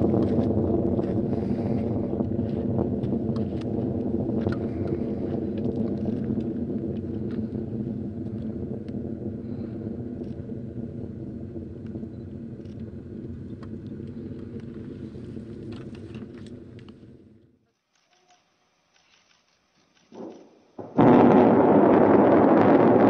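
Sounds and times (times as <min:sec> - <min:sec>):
rocket engine rumbling: 0:00.0 - 0:17.6, 0:20.1 - 0:23.0.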